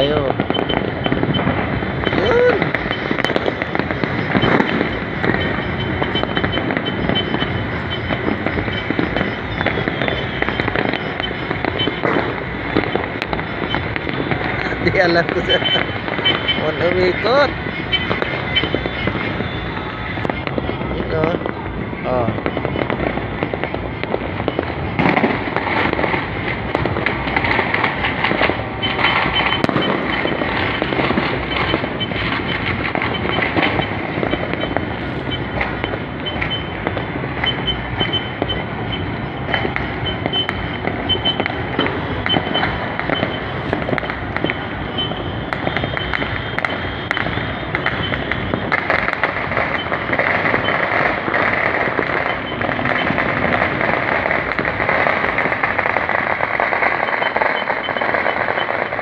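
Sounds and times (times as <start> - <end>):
distant fireworks crackling: 0.0 - 59.0.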